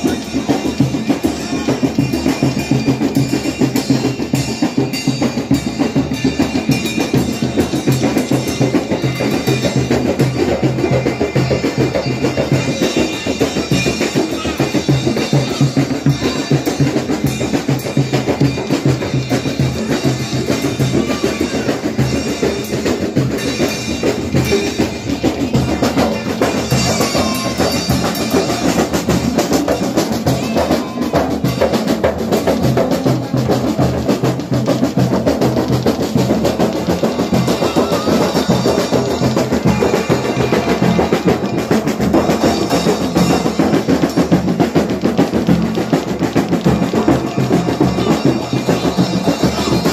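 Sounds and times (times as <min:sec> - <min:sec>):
hand drums fast rhythm: 0:00.0 - 0:49.9.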